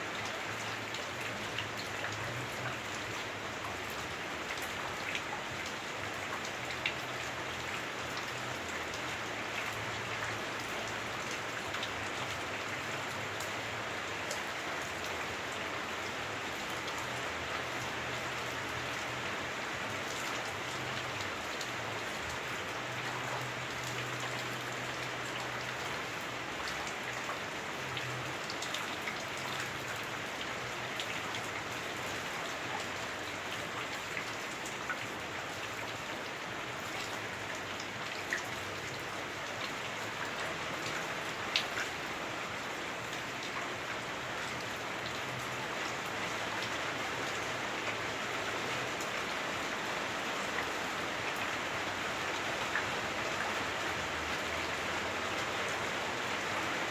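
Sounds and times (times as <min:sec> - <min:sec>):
heavy rain on roof: 0:00.0 - 0:56.9.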